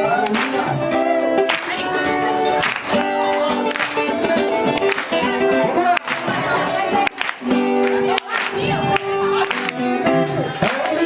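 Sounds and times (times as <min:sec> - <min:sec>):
worship band playing: 0:00.0 - 0:11.0.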